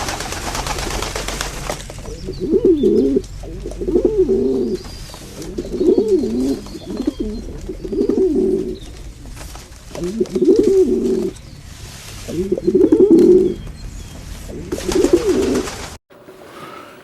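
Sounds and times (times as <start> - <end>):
bird warbling calls: 0.0 - 16.0.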